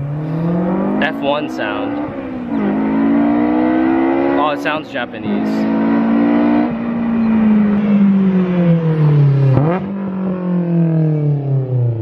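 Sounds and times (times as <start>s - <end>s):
loud car engine exhaust note: 0.0s - 12.0s.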